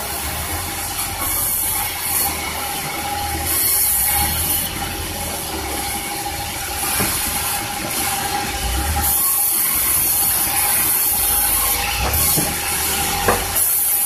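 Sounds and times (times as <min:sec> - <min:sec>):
saw cutting log hiss: 0:00.0 - 0:14.0
sawmill machinery hum and whine: 0:00.0 - 0:14.0.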